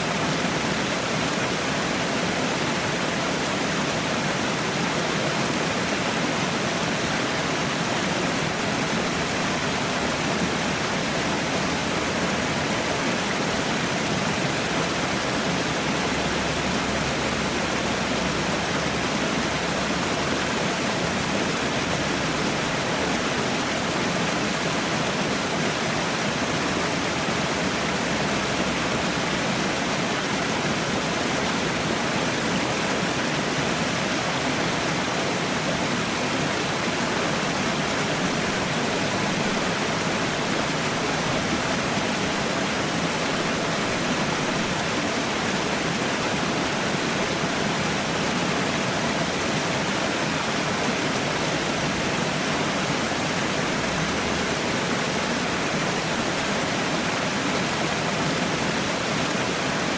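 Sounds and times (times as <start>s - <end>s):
water falling and rushing: 0.0s - 59.9s.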